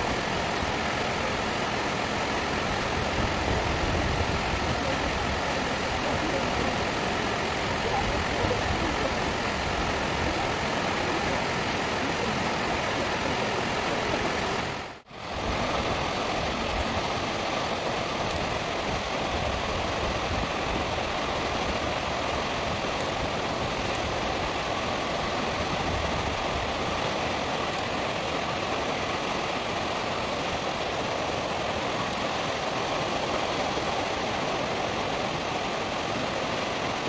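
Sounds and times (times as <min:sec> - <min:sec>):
water roaring over dam spillway: 0:00.0 - 0:37.0.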